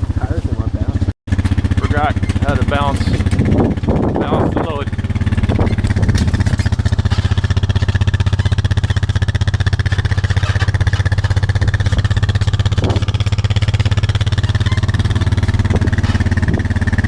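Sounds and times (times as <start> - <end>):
vehicle engine pulsing: 0.0 - 17.0.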